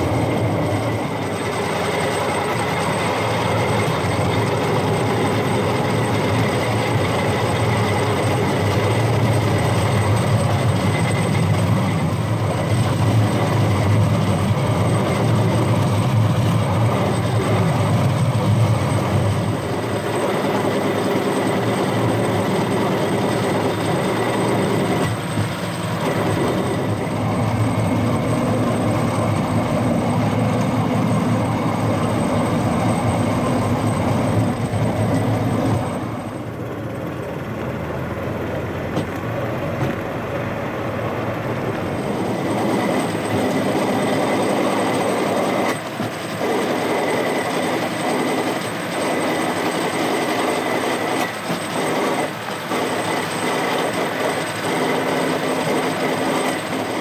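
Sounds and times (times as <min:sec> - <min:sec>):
faint steady whine: 0:00.0 - 0:57.0
wheels rumbling on rails: 0:00.0 - 0:57.0.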